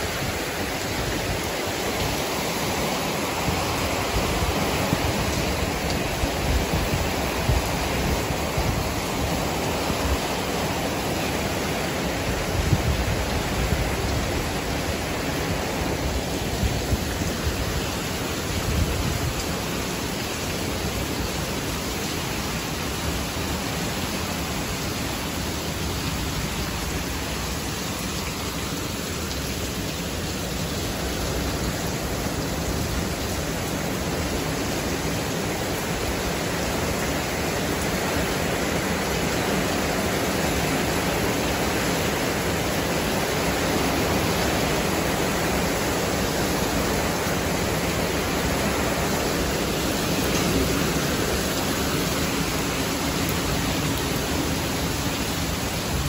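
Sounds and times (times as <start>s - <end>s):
heavy rain pouring: 0.0s - 56.0s
wind: 0.0s - 56.0s.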